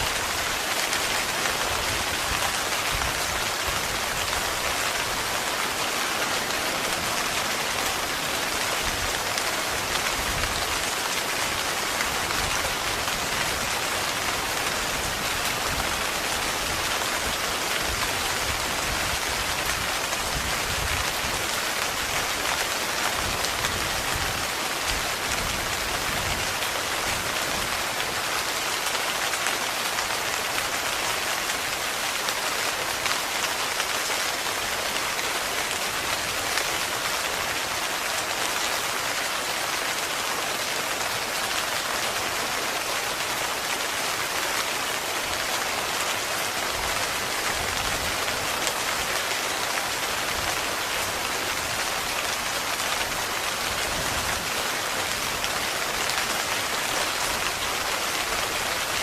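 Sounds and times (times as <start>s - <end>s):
heavy rain on a tent: 0.0s - 59.0s.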